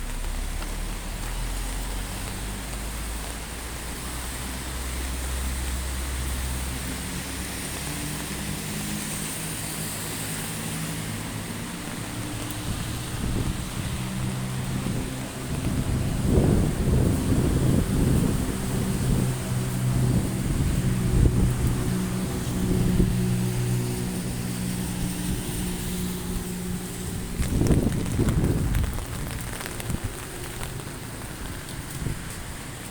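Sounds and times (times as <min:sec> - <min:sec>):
heavy rain hissing: 0:00.0 - 0:32.9
passing vehicle engine hum: 0:00.0 - 0:32.9.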